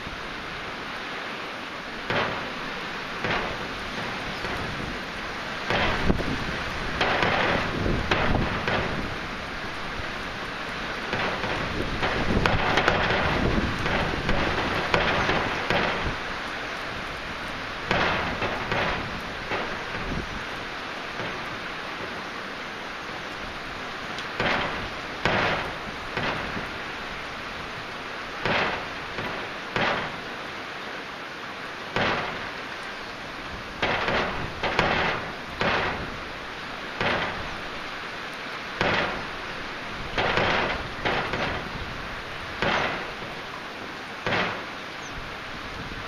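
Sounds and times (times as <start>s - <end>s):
heavy rain hissing: 0.0s - 46.0s
splashing bursts: 0.8s - 30.6s, 31.8s - 46.0s.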